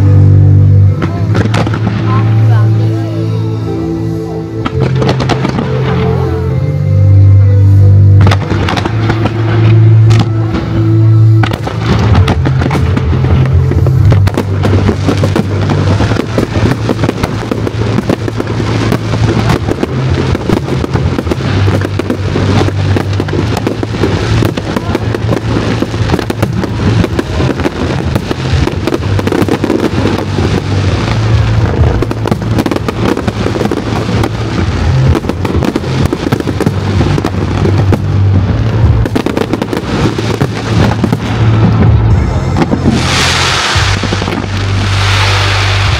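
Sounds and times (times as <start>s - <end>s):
fireworks crackling and banging: 0.0s - 3.7s, 4.5s - 6.4s, 7.7s - 45.9s
music with strong bass: 0.0s - 45.9s.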